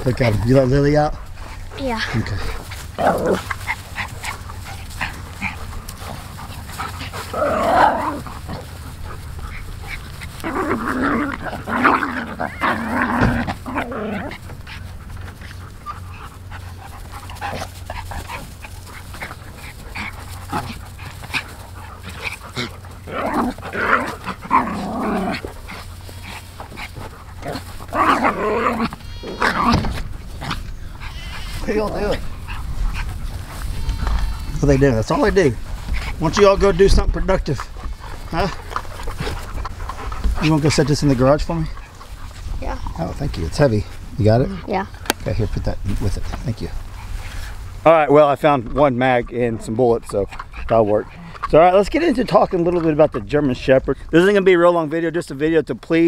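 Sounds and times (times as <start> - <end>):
dogs making rough vocal noises: 0.0 - 45.2, 48.6 - 53.2.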